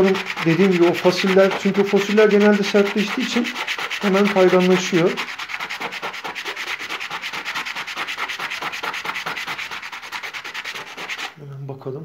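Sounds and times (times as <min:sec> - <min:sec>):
stone scraping on wet sandpaper: 0:00.0 - 0:11.4.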